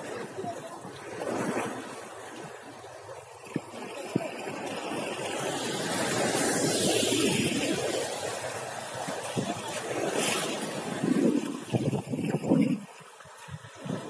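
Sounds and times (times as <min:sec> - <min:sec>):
sea water sloshing and splashing: 0:00.0 - 0:14.0
wave washing against raft: 0:00.0 - 0:14.0.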